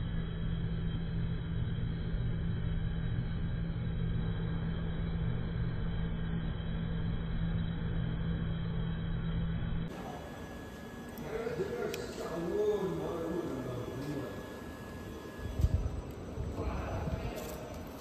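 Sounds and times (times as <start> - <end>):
burner flame rumbling: 0.0 - 18.0
constant low hum: 0.0 - 18.0.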